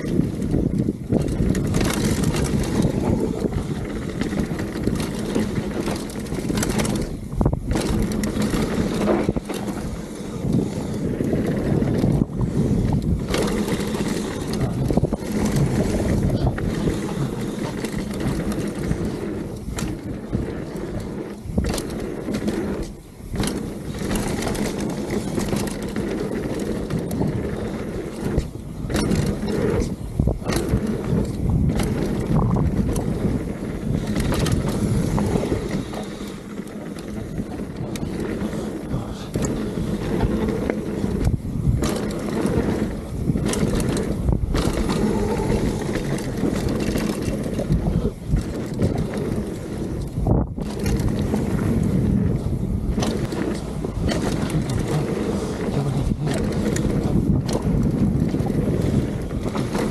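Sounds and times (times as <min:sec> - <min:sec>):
bike rattling and knocking: 0:00.0 - 0:59.9
bike tyres rumbling on dirt: 0:00.0 - 0:59.9
wind on microphone: 0:00.0 - 0:59.9.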